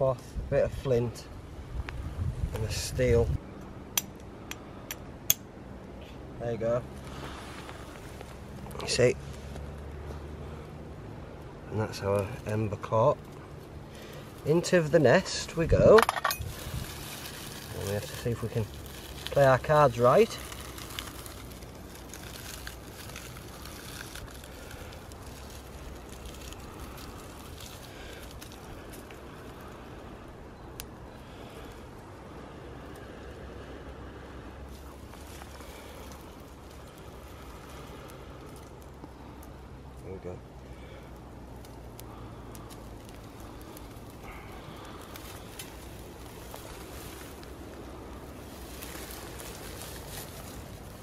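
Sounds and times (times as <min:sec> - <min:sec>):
dry grass crackling: 0:06.0 - 0:51.0.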